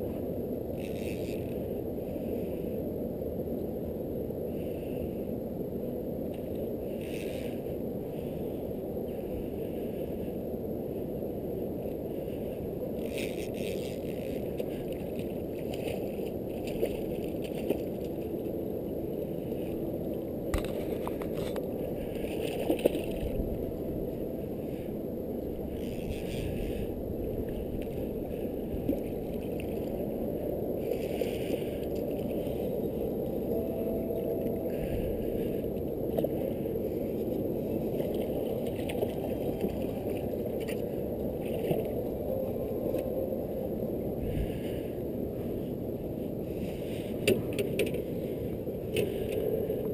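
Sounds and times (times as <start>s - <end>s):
muffled outboard motor rumble: 0.0s - 49.9s.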